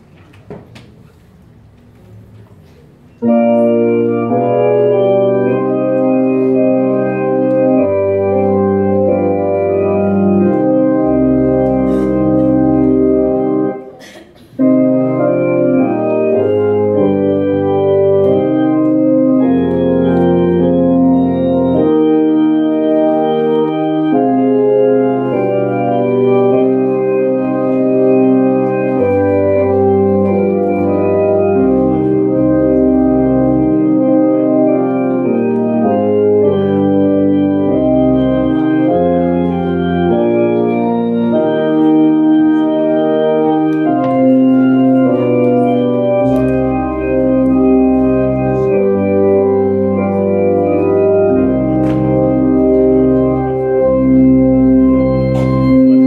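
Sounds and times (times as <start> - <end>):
organ playing a hymn: 3.1 - 56.0.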